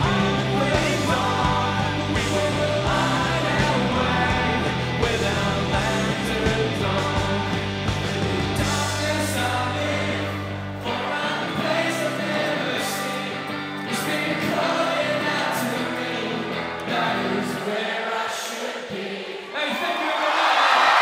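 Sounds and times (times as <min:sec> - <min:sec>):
live rock band playing: 0:00.0 - 0:17.2
man singing lead: 0:00.0 - 0:20.4
many voices singing along: 0:00.0 - 0:21.0.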